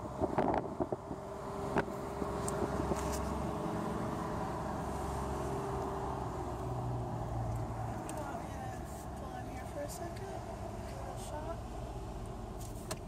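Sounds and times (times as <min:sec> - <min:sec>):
car engine: 0:00.0 - 0:13.0
tyres on road: 0:00.0 - 0:13.0.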